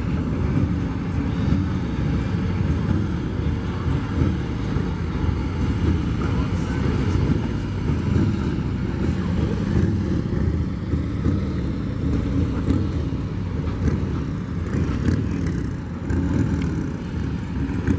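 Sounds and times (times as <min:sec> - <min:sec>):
motorcycles riding past: 0:00.0 - 0:17.9.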